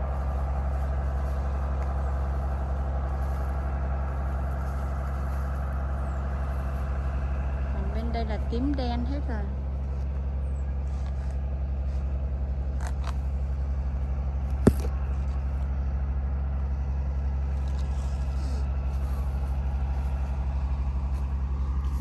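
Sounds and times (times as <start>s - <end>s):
low pulsing engine drone: 0.0s - 22.0s.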